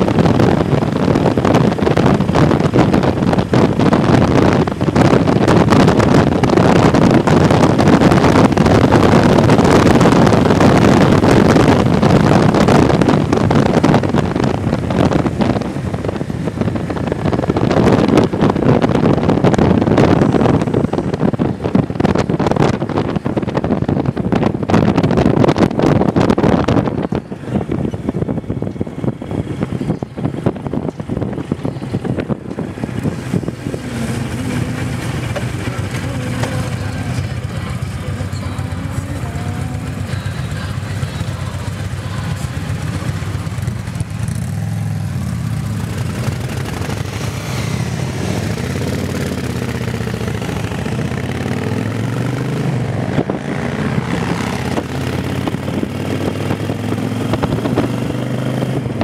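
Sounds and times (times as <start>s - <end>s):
motorcycle engines running: 0.0s - 59.0s
wind noise on microphone: 0.0s - 59.0s.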